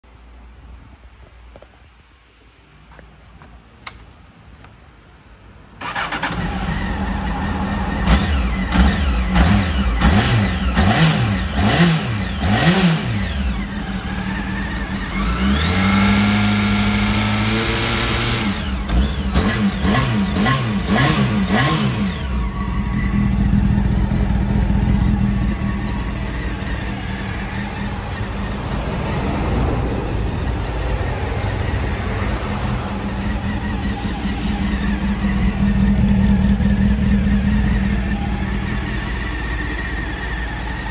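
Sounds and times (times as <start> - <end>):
motorcycle engine revving and idling: 5.8 - 40.9.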